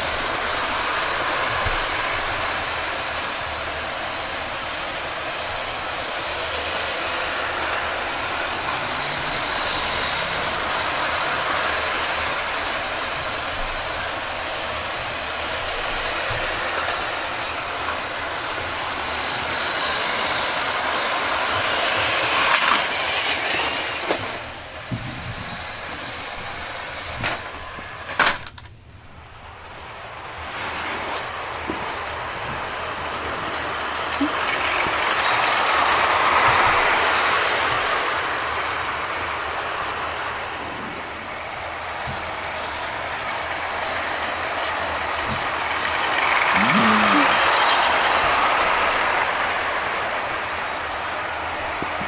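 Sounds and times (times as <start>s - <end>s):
model train motors whirring: 0.0s - 52.0s
wheels rolling on rails: 0.0s - 52.0s.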